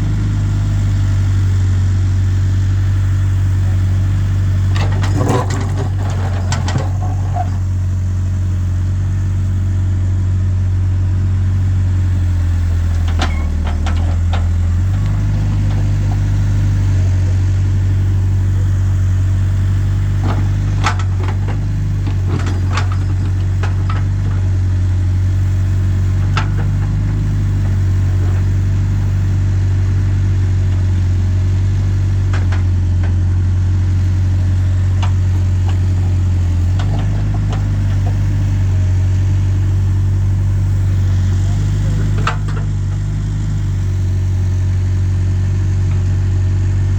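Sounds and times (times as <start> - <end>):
backhoe diesel engine running: 0.0 - 46.9.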